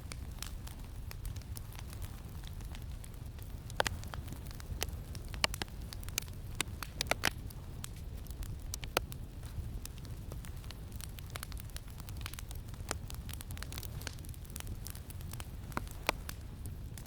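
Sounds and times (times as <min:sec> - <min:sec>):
campfire crackling and popping: 0:00.0 - 0:17.0
low rumble of wind: 0:00.0 - 0:17.0.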